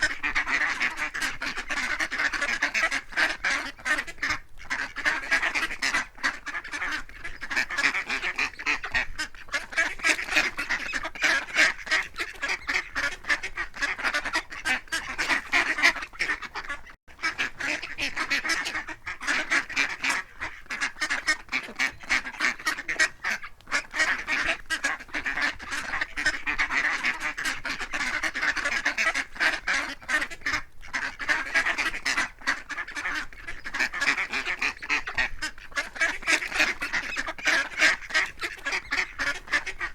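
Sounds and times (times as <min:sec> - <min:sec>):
flock of ducks quacking: 0:00.0 - 0:39.9.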